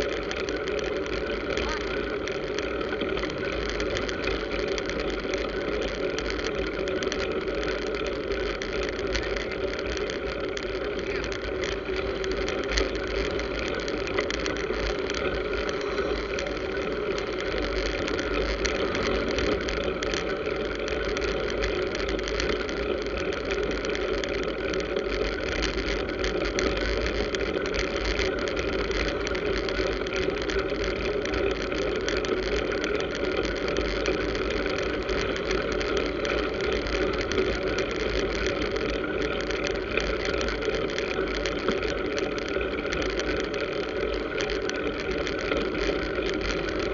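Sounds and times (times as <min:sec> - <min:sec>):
road traffic noise: 0:00.0 - 0:46.9
wind rumbling on microphone: 0:00.0 - 0:46.9.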